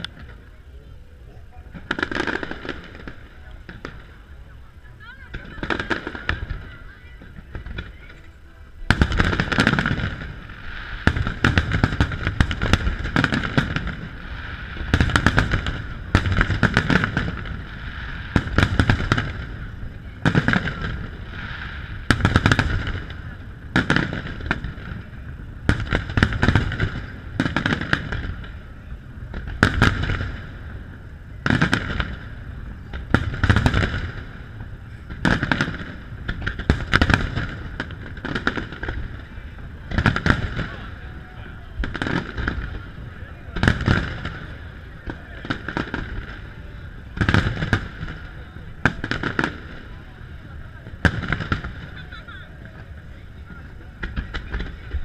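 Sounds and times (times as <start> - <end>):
fireworks bangs and booms: 0.0 - 0.7, 1.6 - 55.0.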